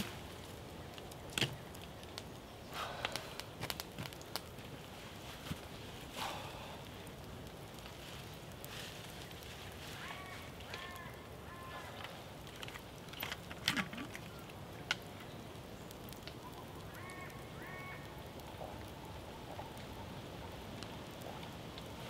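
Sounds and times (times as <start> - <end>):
campfire crackling: 0.0 - 22.0
fire popping: 0.0 - 22.0.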